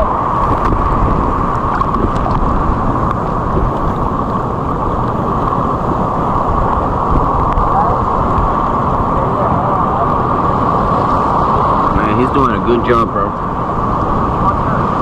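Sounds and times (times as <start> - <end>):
ocean surf: 0.0 - 15.0
wind on microphone: 0.0 - 15.0.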